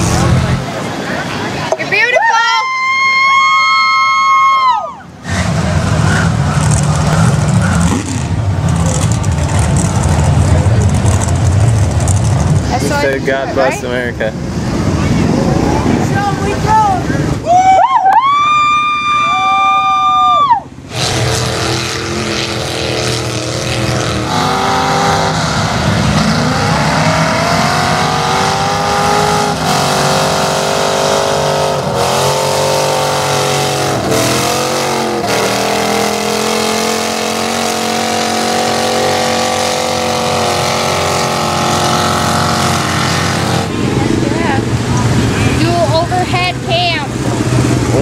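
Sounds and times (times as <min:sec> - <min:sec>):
truck engine revving: 0:00.0 - 0:02.0, 0:05.1 - 0:17.4, 0:20.7 - 0:48.0.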